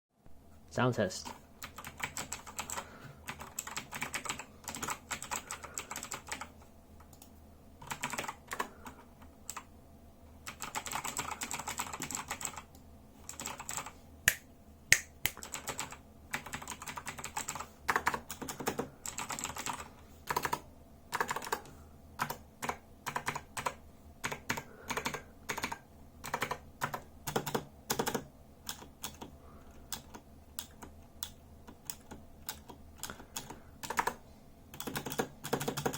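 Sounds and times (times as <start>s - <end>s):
clicky mechanical keyboard typing: 1.2s - 9.7s, 10.4s - 13.9s, 15.3s - 35.9s.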